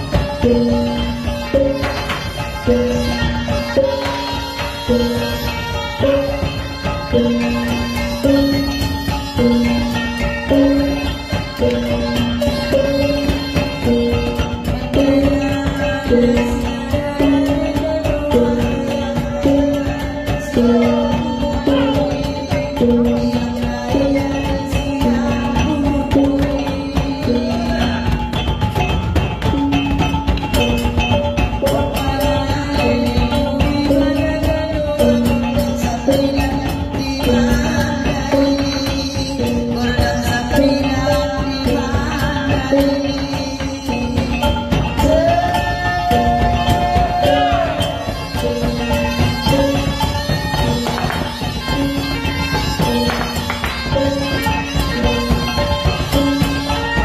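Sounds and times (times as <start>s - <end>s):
drums beaten with sticks: 0.0s - 57.0s.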